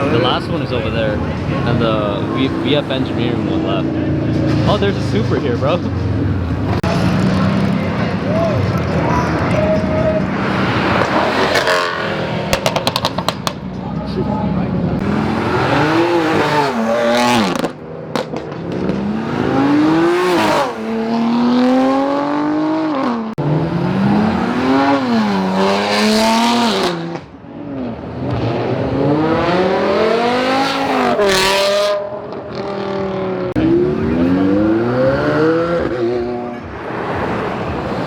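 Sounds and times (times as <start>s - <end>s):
cars accelerating hard past: 6.0s - 13.7s, 14.8s - 38.0s.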